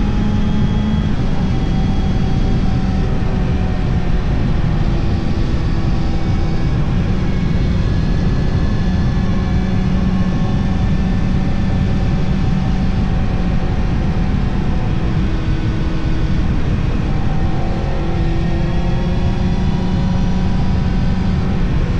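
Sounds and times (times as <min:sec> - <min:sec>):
wind noise: 0:00.0 - 0:21.9.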